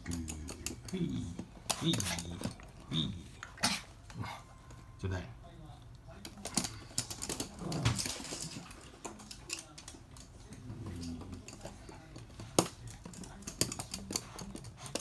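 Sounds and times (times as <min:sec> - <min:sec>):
dog claws clicking on hard floor: 0:00.0 - 0:04.1, 0:06.2 - 0:15.0.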